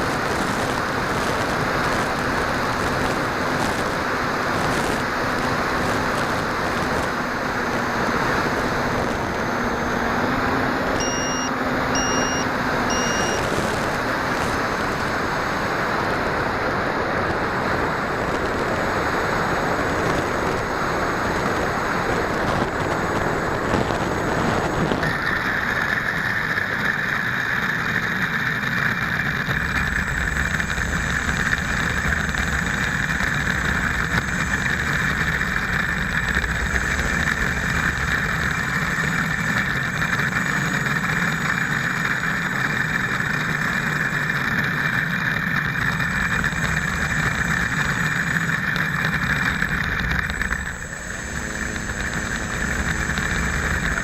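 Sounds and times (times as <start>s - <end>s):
model aircraft motor drone: 0.0s - 54.0s.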